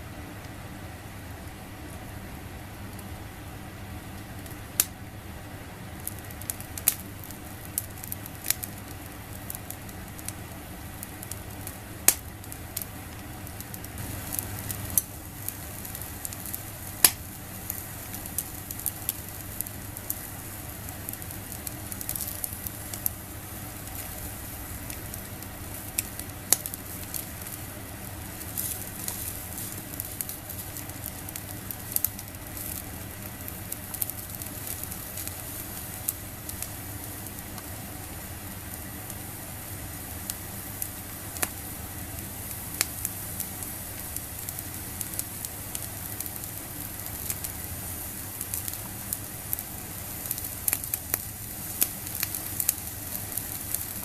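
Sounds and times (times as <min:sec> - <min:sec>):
squid sizzling on a grill: 0:00.4 - 0:54.0
fire pops and crackles: 0:01.5 - 0:05.2, 0:05.8 - 0:54.0.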